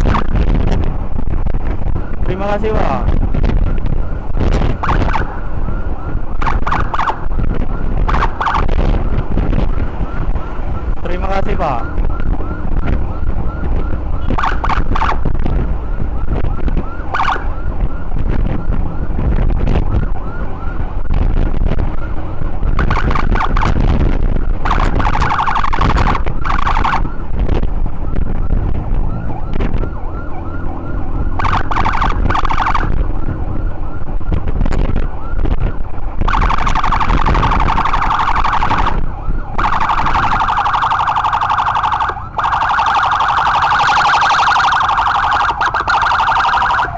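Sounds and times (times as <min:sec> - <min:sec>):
ambulance siren wavering: 0:00.0 - 0:46.9
wind noise on microphone: 0:00.0 - 0:46.9.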